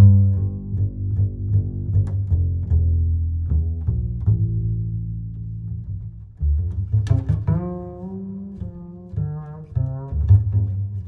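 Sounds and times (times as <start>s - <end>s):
heavy bass line: 0.0s - 11.0s
plucked and bowed strings: 0.0s - 11.0s.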